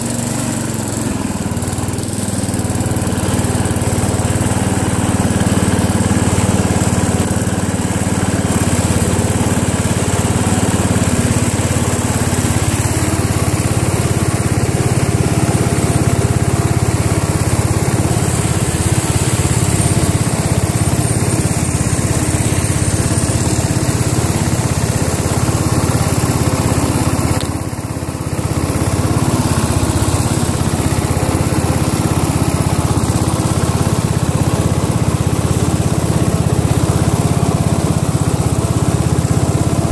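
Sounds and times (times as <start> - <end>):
small engine running hard: 0.0 - 39.9
tire churning through mud: 0.0 - 39.9.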